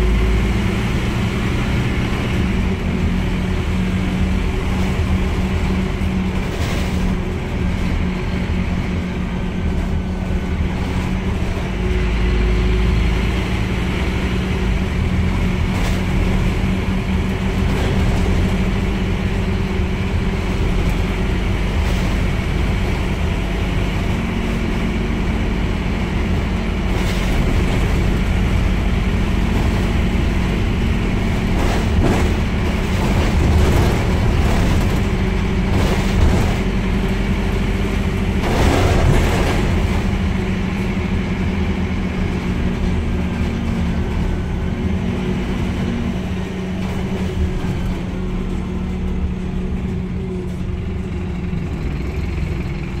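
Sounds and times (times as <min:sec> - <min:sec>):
bus diesel engine running: 0:00.0 - 0:53.0
road rumble: 0:00.0 - 0:53.0.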